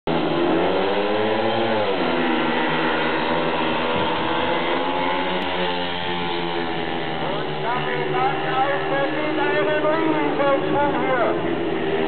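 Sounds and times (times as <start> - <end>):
motorcycle engines racing: 0.1 - 12.0.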